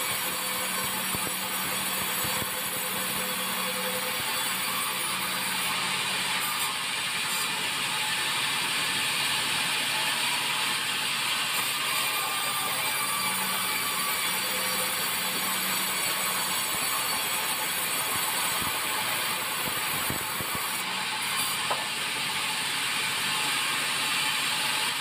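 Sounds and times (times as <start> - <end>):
band saw cutting timber: 0.0 - 25.0.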